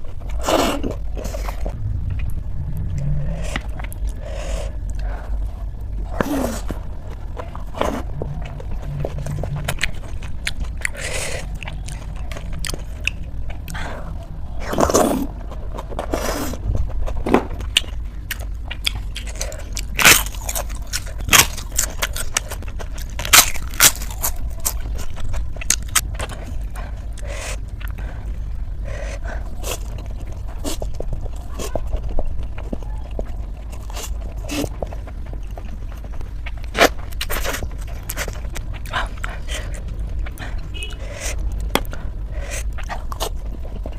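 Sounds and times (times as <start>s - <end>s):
steady low hum: 0.0s - 43.9s
person chewing noodles: 3.0s - 43.9s.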